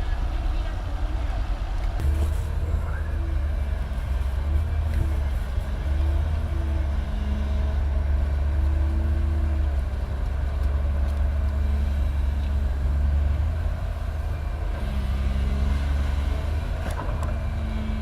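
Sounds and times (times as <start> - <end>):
heavy diesel engines under load: 0.0 - 18.0.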